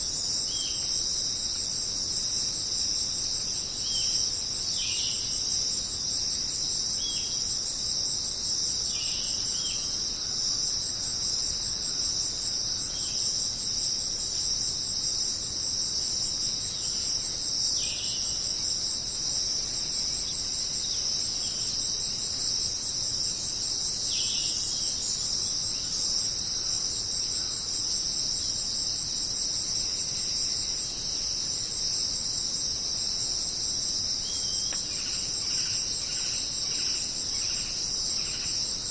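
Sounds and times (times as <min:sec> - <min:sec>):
jungle insects buzzing: 0:00.0 - 0:38.9.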